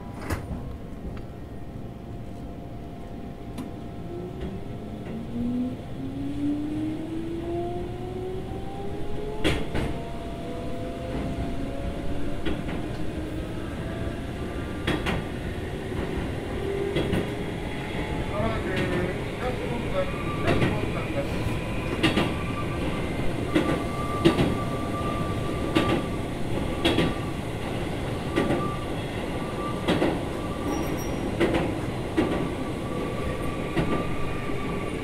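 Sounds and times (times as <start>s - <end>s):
wheels rumbling on rail: 3.5s - 35.0s.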